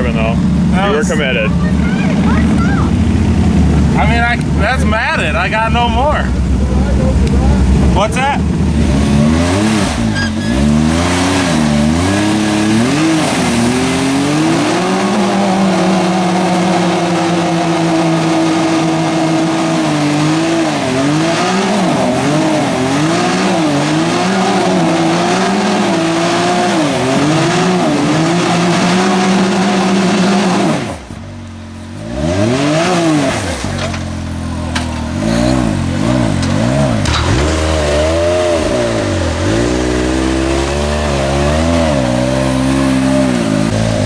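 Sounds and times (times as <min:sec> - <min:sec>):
utv engine revving: 0:00.0 - 0:44.0.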